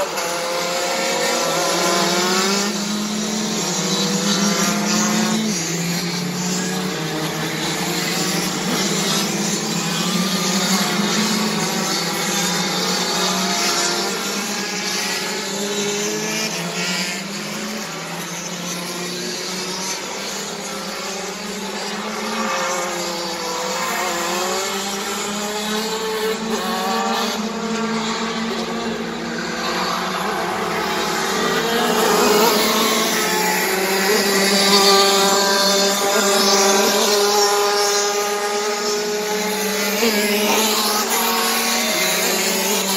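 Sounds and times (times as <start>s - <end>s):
racing kart engines revving: 0.0s - 42.9s.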